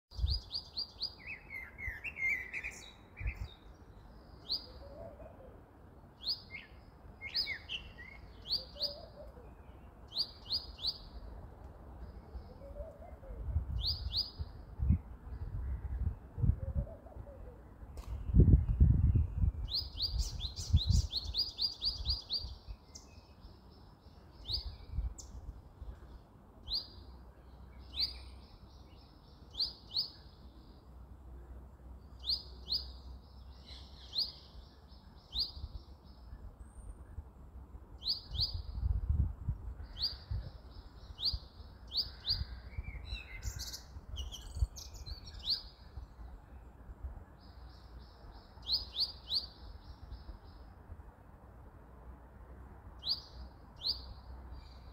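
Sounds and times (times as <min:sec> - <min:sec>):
small songbird chirping: 0:00.1 - 0:31.3, 0:31.9 - 0:37.2, 0:38.0 - 0:50.8, 0:53.0 - 0:54.9.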